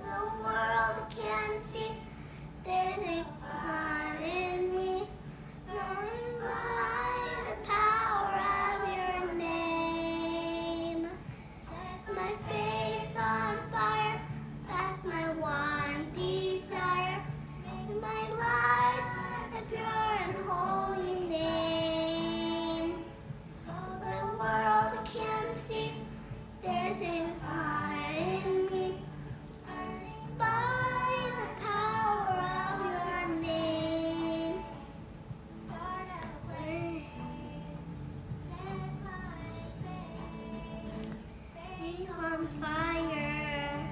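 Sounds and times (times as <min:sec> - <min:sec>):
girl singing: 0:00.0 - 0:43.9.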